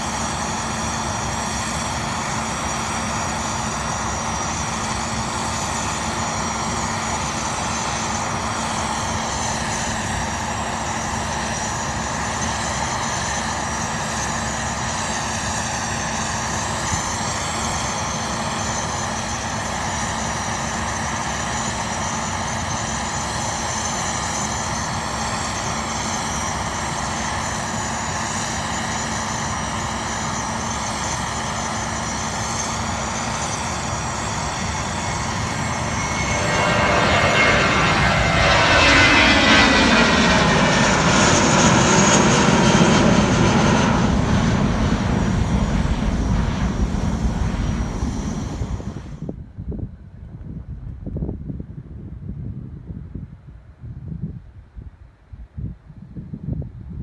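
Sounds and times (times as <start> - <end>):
jet engines roaring: 0.0 - 49.4.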